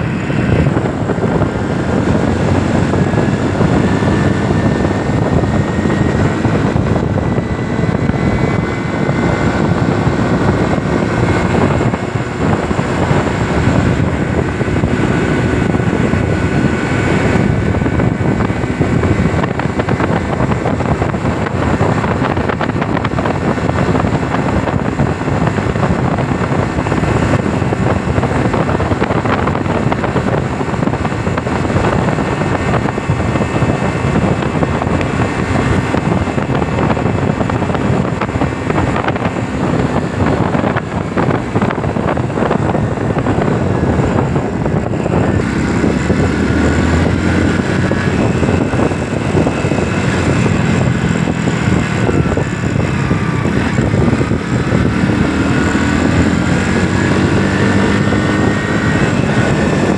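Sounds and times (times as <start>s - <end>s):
loud low rumbling noise: 0.0s - 59.9s.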